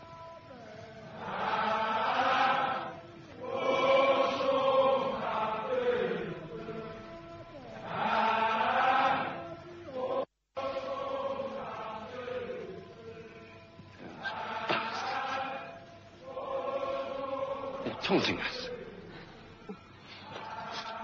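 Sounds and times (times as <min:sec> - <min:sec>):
massed chorus chanting: 0:00.0 - 0:21.0.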